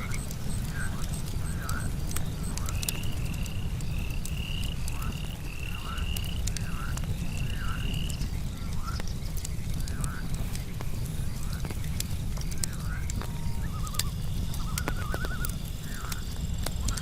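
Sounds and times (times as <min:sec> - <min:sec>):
campfire crackling: 0:00.0 - 0:17.0
frogs calling: 0:00.0 - 0:17.0.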